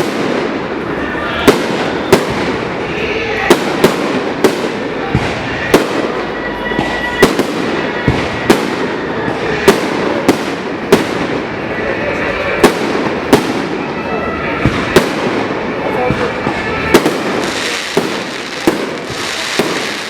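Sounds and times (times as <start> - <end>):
fireworks whistle: 0.0 - 11.4, 12.6 - 20.0
fireworks bangs: 0.0 - 20.0
fireworks crackle: 0.0 - 20.0.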